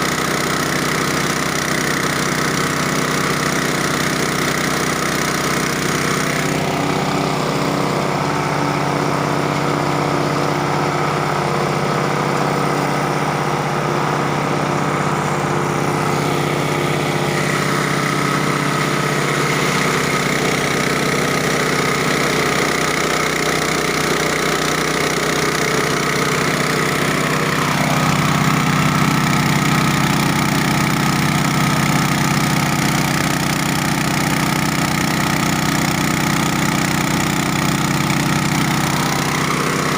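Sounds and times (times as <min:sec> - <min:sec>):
chopping machine engine grinding: 0:00.0 - 0:39.9.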